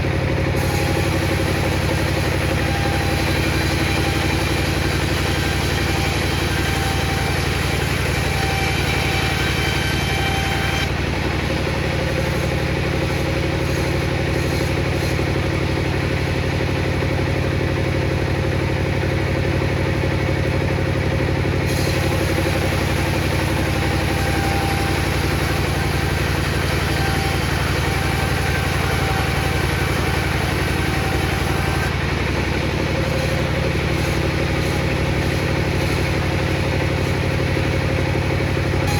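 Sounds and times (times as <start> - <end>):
table saw motor humming: 0.0 - 38.9.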